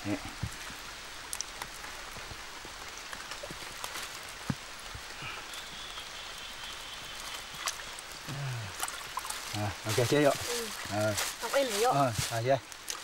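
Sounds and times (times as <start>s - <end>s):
water splashing around waders: 1.2s - 13.0s.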